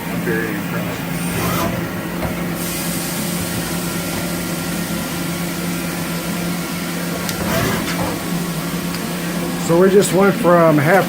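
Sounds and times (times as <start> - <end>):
lathe running with steady hum: 0.0 - 11.0.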